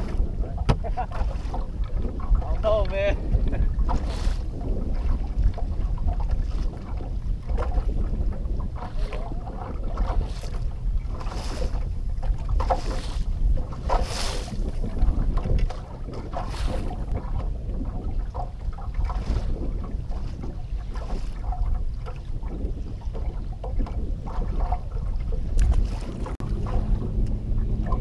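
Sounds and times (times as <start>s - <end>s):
water lapping against boat hull: 0.0s - 28.0s
wind buffeting microphone: 0.0s - 28.0s.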